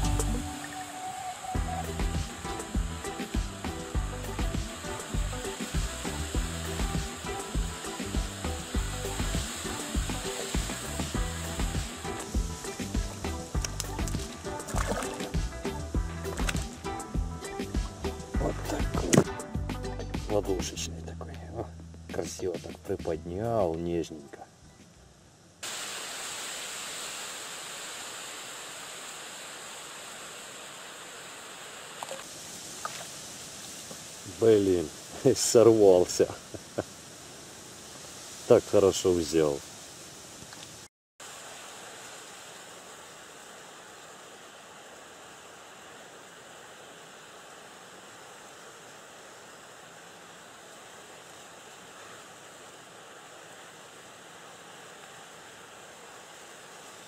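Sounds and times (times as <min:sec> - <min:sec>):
wind blowing through reeds: 0:00.0 - 0:19.2, 0:24.6 - 0:57.0
rippling lake water: 0:00.0 - 0:19.3, 0:25.6 - 0:57.0.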